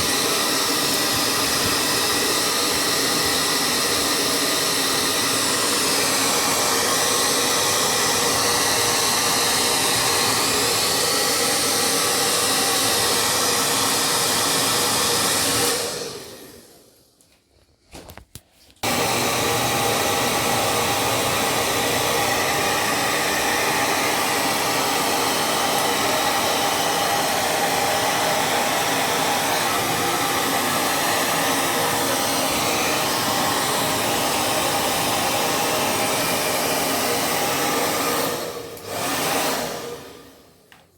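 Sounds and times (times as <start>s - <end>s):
hair dryer blowing: 0.0s - 17.1s, 18.8s - 40.8s.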